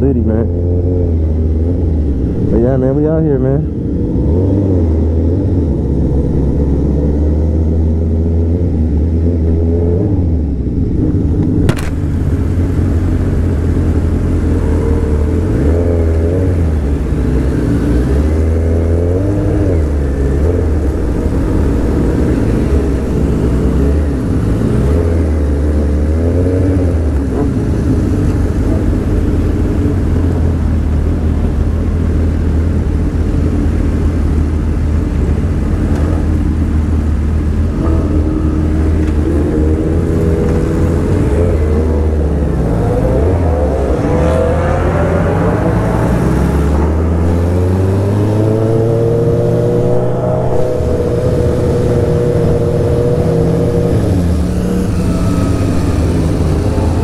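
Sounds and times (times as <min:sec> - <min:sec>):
motorcycle engine revving: 0:00.0 - 0:33.9, 0:35.4 - 0:57.0.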